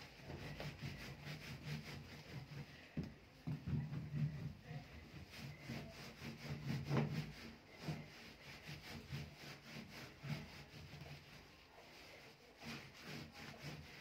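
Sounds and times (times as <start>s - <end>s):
hand scrubbing metal panel: 0.0s - 14.0s.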